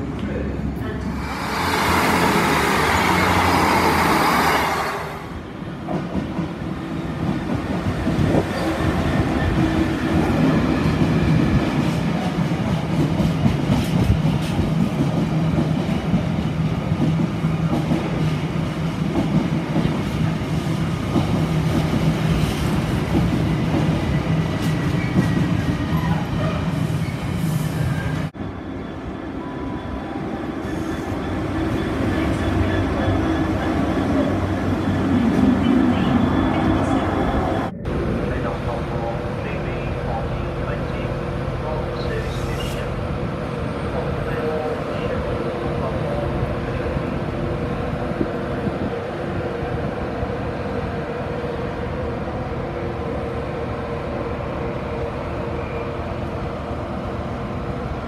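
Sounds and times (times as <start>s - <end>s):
train wheels rumbling on rail: 0.0s - 29.1s, 30.1s - 58.0s
diesel locomotive engine: 0.0s - 58.0s.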